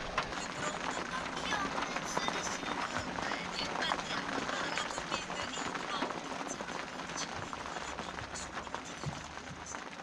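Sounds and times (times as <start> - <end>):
drops ticking on hard surface: 0.0 - 10.0
rain falling: 0.0 - 10.0.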